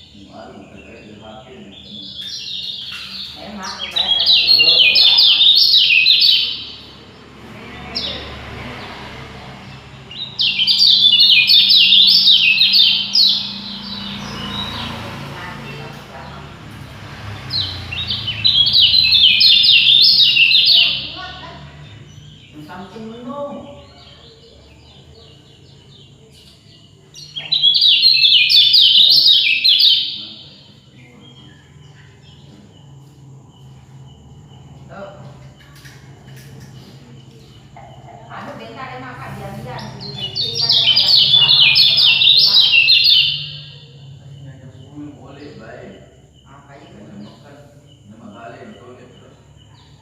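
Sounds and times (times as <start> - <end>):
songbird chirping: 0.0 - 50.0.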